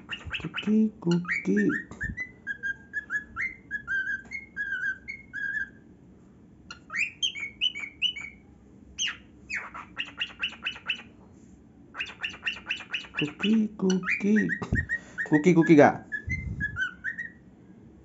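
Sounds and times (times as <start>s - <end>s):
cockatiel chirping: 0.0s - 5.8s, 6.7s - 8.4s, 9.0s - 11.1s, 12.0s - 17.4s
cockatiel whistling: 0.0s - 5.8s, 6.7s - 8.4s, 9.0s - 11.1s, 12.0s - 17.4s.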